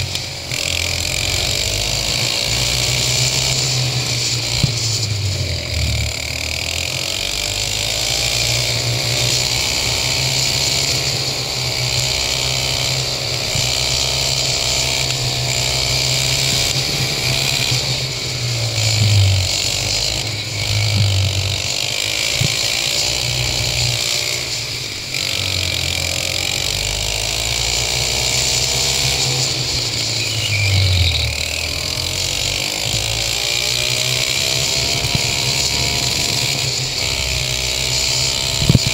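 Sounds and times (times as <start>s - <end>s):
go-kart engine running hard: 0.0s - 38.9s.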